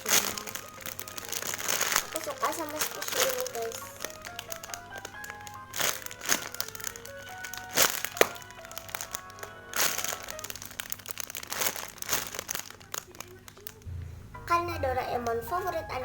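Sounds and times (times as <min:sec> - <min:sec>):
crinkling crackles: 0:00.0 - 0:16.0
light background music: 0:00.0 - 0:16.0.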